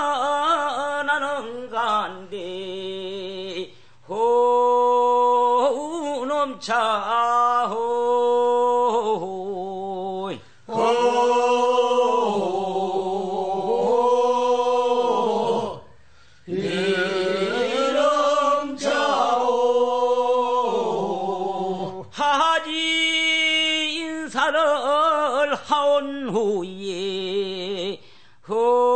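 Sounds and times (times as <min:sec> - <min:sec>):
men singing a slow chant: 0:00.0 - 0:28.9.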